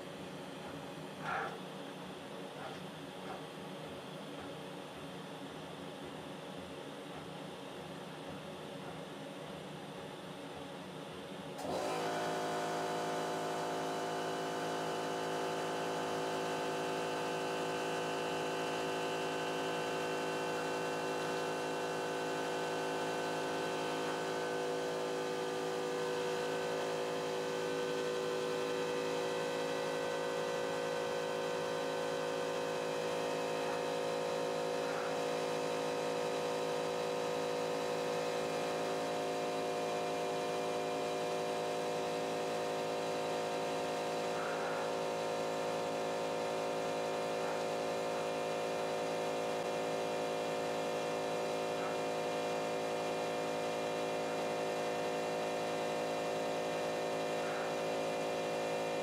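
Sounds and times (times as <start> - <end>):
plotter motor hum: 11.6 - 59.0.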